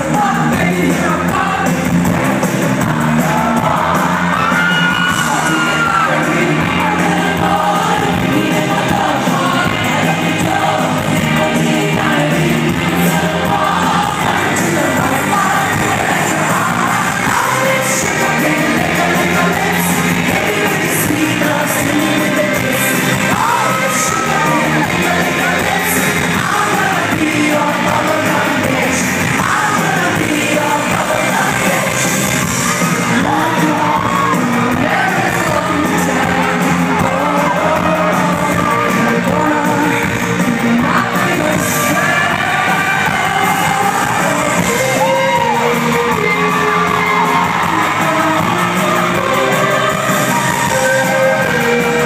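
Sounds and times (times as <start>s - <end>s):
live pop band playing: 0.0s - 52.0s
woman singing lead: 0.0s - 52.0s.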